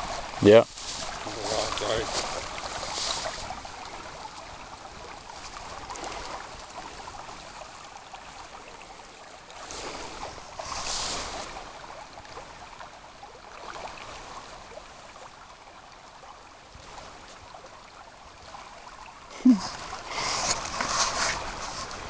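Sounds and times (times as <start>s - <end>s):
creek water running over gravel: 0.0s - 22.0s.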